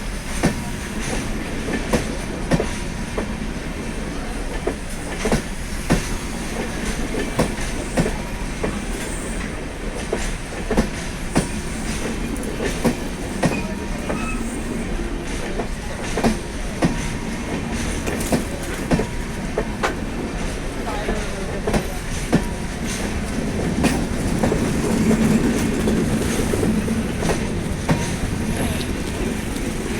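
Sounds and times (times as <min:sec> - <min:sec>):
train rumble: 0:00.0 - 0:29.9
train wheels clickety-clack: 0:00.0 - 0:29.9.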